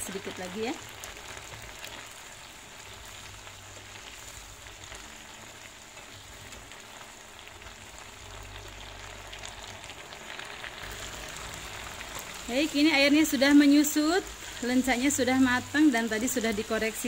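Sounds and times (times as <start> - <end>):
stir-fry sizzling in a frying pan: 0.0 - 17.0.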